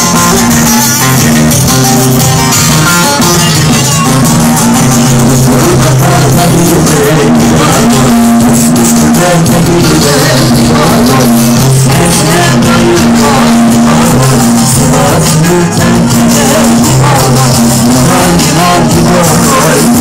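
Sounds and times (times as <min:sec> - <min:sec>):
melody: 0:00.0 - 0:19.7
bass line: 0:00.0 - 0:20.0.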